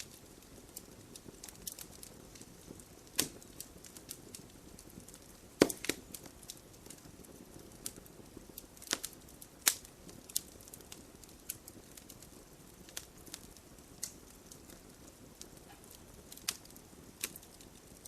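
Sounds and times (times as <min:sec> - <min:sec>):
fireplace logs crackling: 0:00.0 - 0:18.0.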